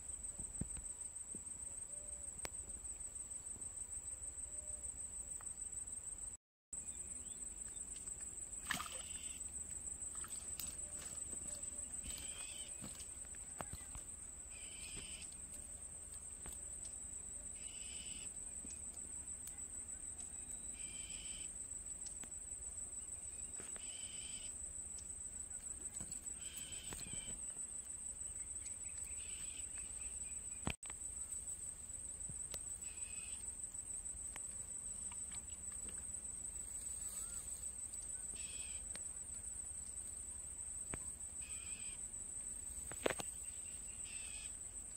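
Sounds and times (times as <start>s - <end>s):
crickets trilling: 0.0s - 44.9s
short insect call: 0.0s - 44.9s.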